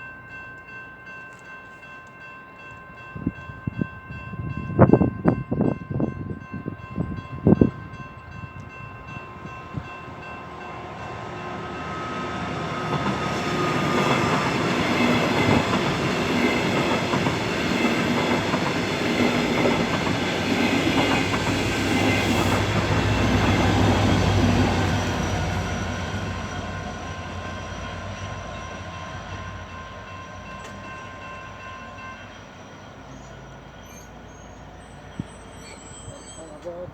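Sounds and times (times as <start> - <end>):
level crossing warning bells: 0.0 - 33.8
passenger train rumble: 0.0 - 36.9.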